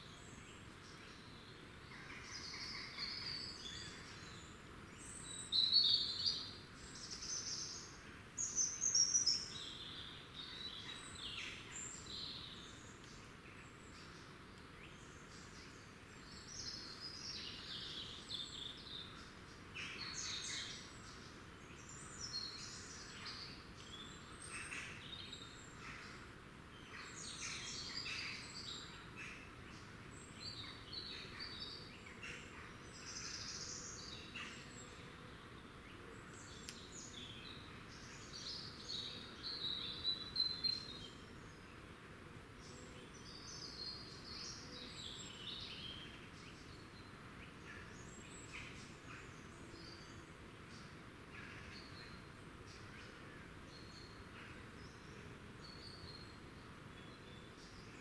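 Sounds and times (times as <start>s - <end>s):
faint hiss: 0.0s - 58.0s
songbirds chirping: 0.0s - 58.0s.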